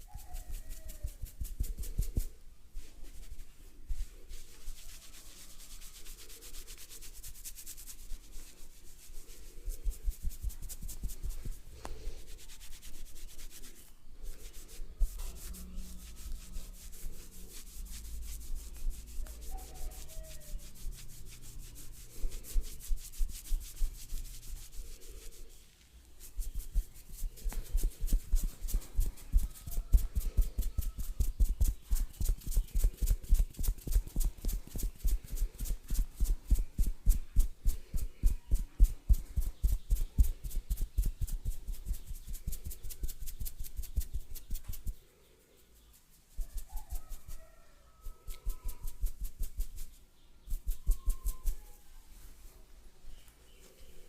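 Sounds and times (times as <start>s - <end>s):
hands rubbing and tapping hair: 0.0s - 45.0s, 48.3s - 52.5s.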